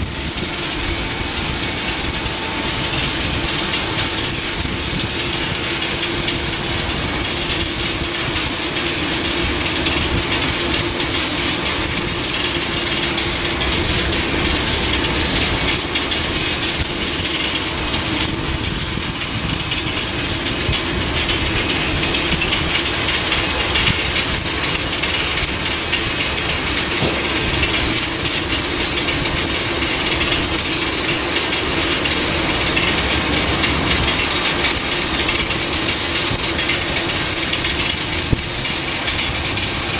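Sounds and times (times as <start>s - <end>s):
jet engine whine and roar: 0.0s - 39.9s.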